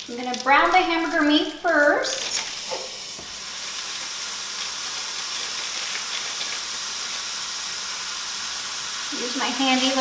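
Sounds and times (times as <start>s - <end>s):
beef sizzling in a pan: 0.0s - 10.0s.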